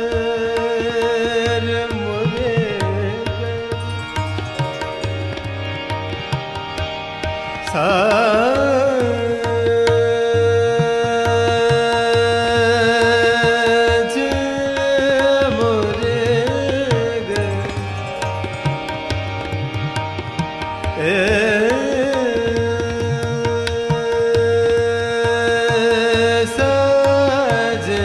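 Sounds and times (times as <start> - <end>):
person singing ornamented notes: 0.0 - 6.3, 7.6 - 19.8, 20.9 - 28.0
tabla rhythm: 0.0 - 28.0.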